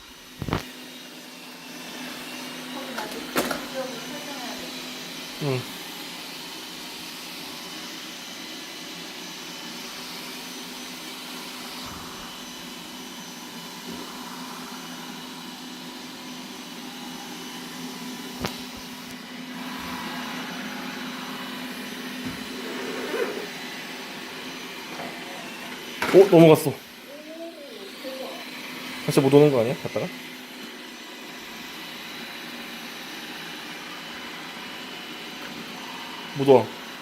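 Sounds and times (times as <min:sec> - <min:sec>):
robot vacuum whirring: 0:00.0 - 0:37.0.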